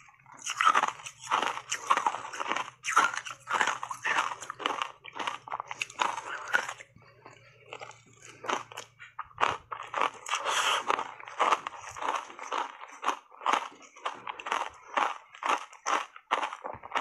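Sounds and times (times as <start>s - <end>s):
ice crunching while chewing: 0.0s - 17.0s.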